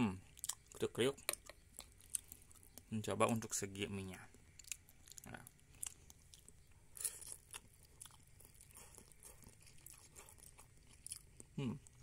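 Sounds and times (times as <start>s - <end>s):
person chewing noodles: 0.2s - 12.0s.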